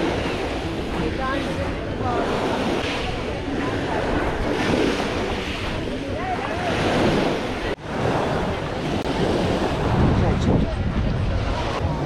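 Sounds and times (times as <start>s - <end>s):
small waves washing on shore: 0.0s - 12.0s
wind buffeting microphone: 0.0s - 12.0s.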